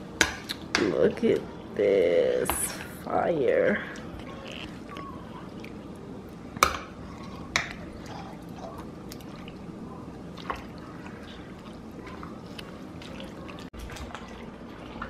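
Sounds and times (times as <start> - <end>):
wet mixture squishing: 2.5 - 15.0.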